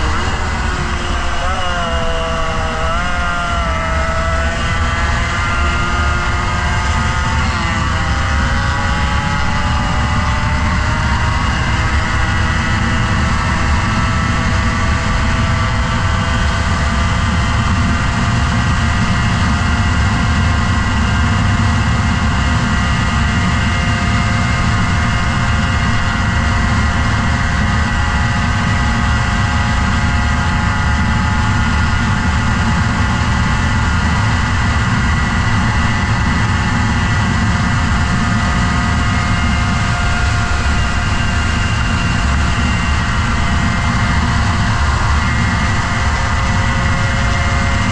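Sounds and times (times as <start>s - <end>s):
motorcycle engine revving high: 0.0s - 47.9s.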